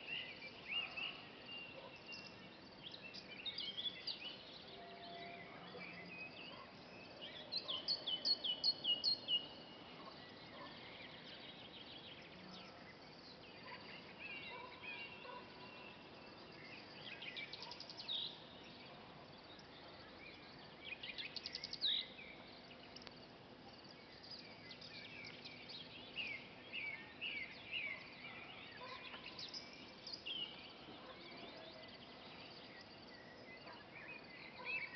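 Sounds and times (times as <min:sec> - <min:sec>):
faint steady hiss: 0:00.0 - 0:34.9
songbirds singing: 0:00.0 - 0:34.9.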